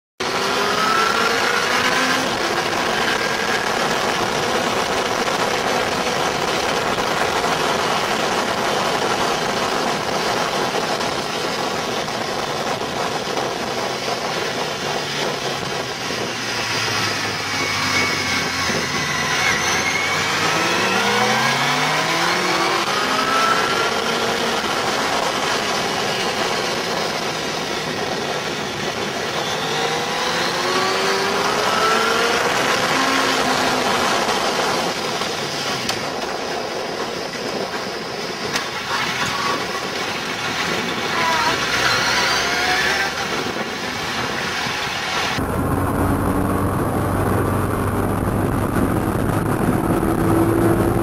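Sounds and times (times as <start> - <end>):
motorcycle engine revving: 0.2 - 37.0, 38.3 - 51.0
loud rushing noise: 0.2 - 51.0.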